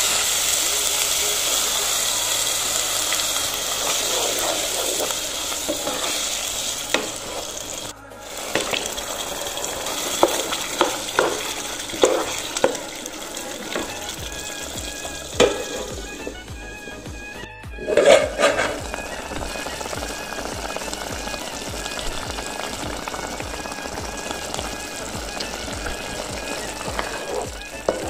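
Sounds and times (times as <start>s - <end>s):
paste sizzling in oil: 0.0s - 28.0s
wooden spoon stirring: 2.8s - 16.8s, 17.8s - 28.0s.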